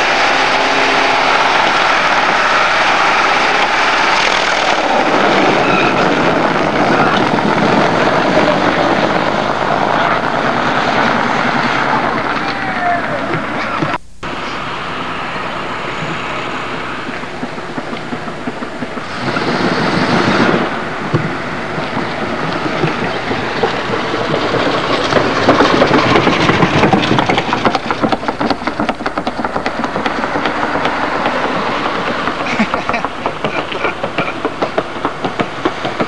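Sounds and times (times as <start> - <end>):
car engine and spinning tyres: 0.0 - 36.0.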